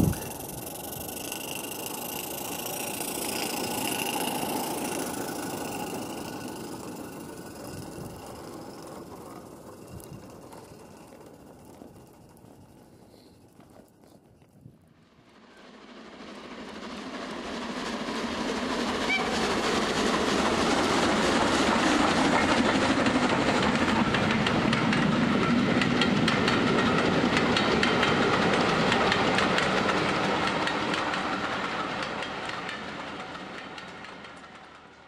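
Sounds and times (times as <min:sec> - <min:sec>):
steam hissing: 0:00.0 - 0:12.2, 0:15.4 - 0:33.4
wheels clicking over rail joints: 0:00.0 - 0:14.9, 0:18.4 - 0:35.0.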